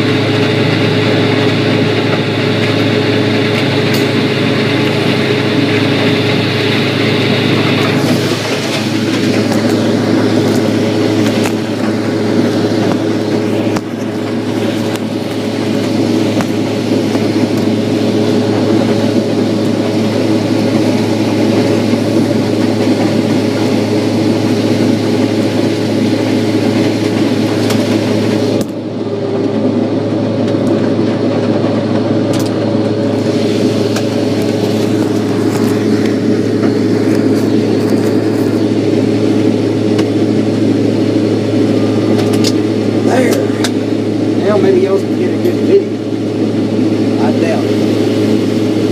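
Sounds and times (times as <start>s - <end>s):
machinery engine humming: 0.0s - 48.9s.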